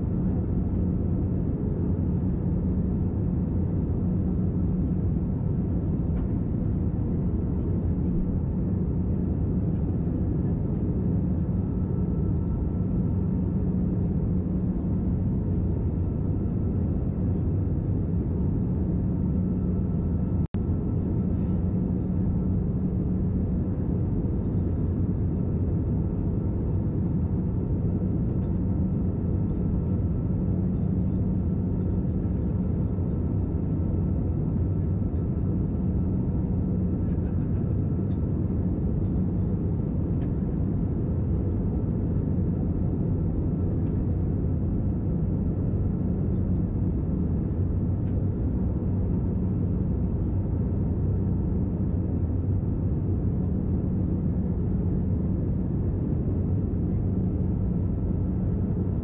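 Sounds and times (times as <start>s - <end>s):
jet engines droning: 0.0s - 59.0s
low cabin hum: 0.0s - 59.0s.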